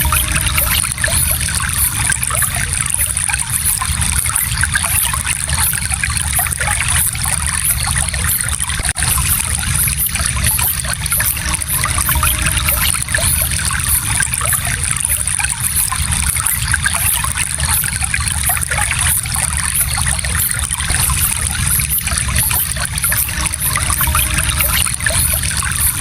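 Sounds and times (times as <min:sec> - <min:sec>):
stream babbling over stones: 0:00.0 - 0:26.0.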